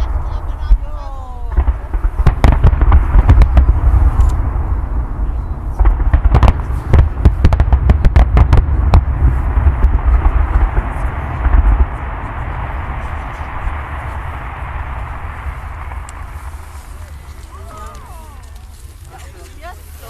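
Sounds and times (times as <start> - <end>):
low rumble: 0.0 - 19.1
fireworks bangs and crackles: 0.0 - 20.0.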